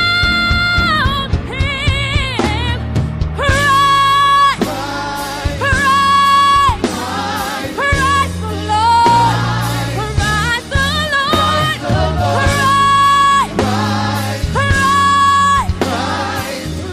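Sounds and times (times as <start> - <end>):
band playing: 0.0 - 16.9.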